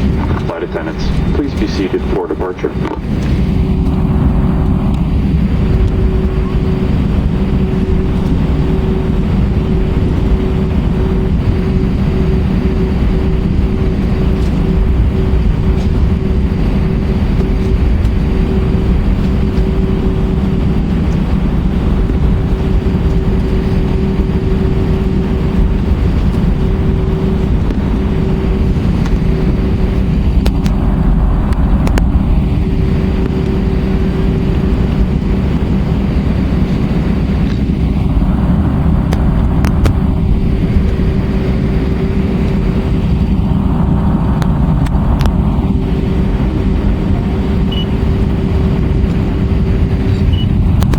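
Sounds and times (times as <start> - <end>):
jet engine and airflow roar: 0.0 - 50.9
steady cabin hum: 0.0 - 50.9.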